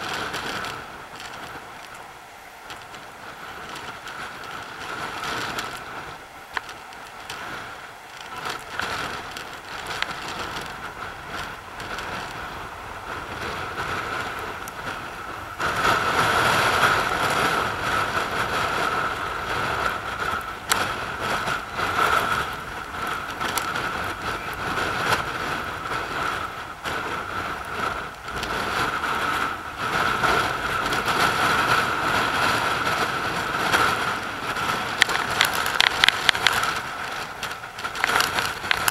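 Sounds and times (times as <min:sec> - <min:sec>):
sea surf breaking over rocks: 0:00.0 - 0:38.9
wind on microphone: 0:00.0 - 0:38.9.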